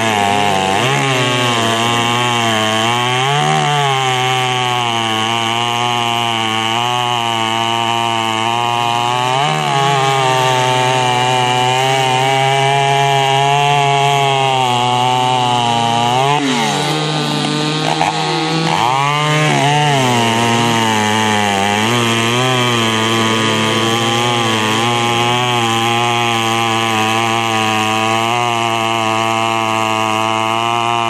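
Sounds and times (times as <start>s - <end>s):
chainsaw cutting log: 0.0s - 31.0s.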